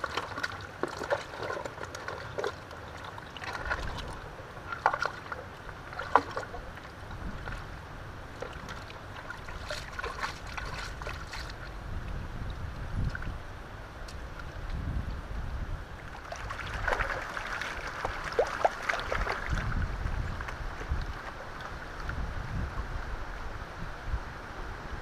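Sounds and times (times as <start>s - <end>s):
water sloshing and splashing: 0.0s - 13.4s, 15.9s - 22.8s.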